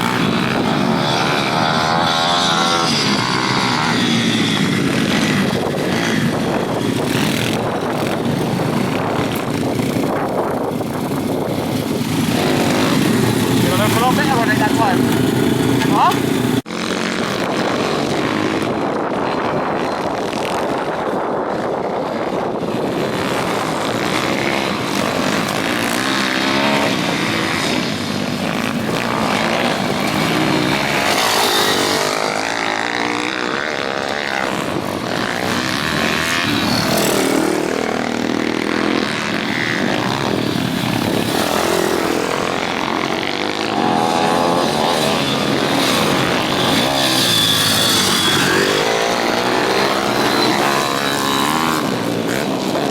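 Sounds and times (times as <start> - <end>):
small motorbike engines revving: 0.0 - 52.9.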